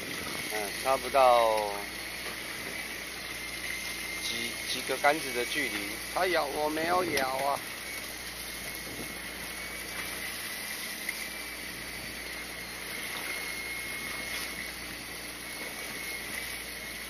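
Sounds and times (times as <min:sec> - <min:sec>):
boat engine hum: 0:00.0 - 0:17.0
faint high whine: 0:00.0 - 0:17.0
water washing around hull: 0:00.0 - 0:17.0.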